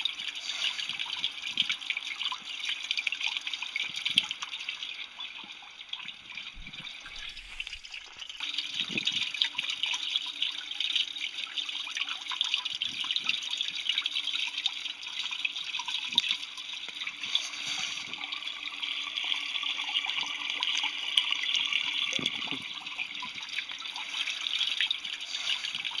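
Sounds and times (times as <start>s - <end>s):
water swirling and trickling: 0.0s - 26.0s.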